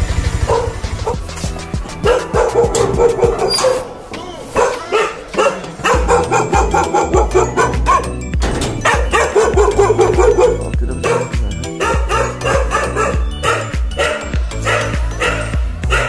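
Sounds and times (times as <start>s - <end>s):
dog barking: 0.5s - 1.2s, 2.0s - 3.9s, 4.5s - 8.2s, 8.8s - 16.0s.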